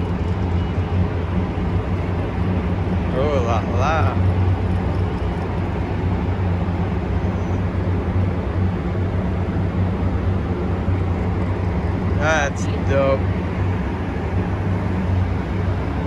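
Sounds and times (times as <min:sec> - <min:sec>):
car show background din: 0:00.0 - 0:16.0.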